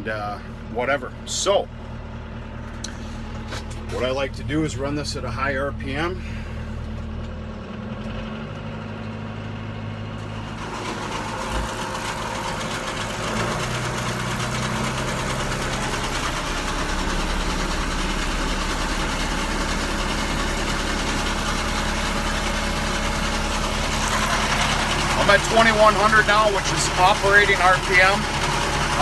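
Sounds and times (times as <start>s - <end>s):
tractor engine revving: 2.4s - 29.0s.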